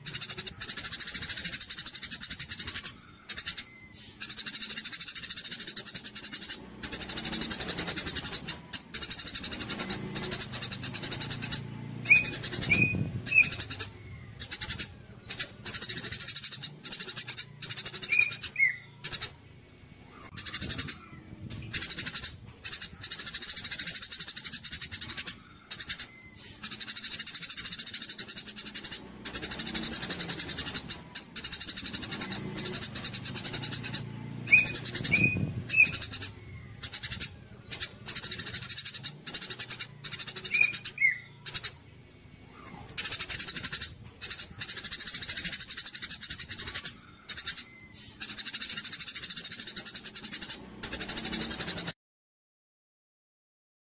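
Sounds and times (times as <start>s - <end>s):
sparrow chattering chirps: 0.0s - 52.0s.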